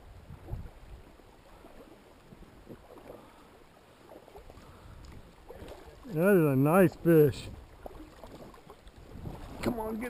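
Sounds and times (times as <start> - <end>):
faint river water over stones: 0.0 - 10.0
water splashes and gurgles: 0.0 - 10.0.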